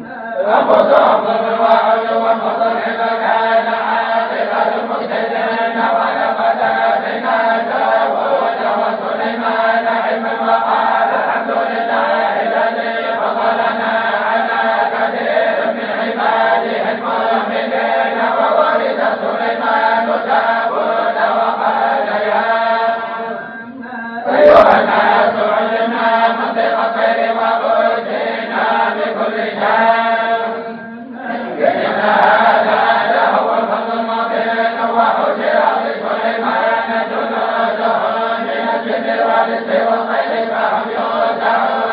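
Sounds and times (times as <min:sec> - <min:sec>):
group of voices chanting: 0:00.0 - 0:41.9.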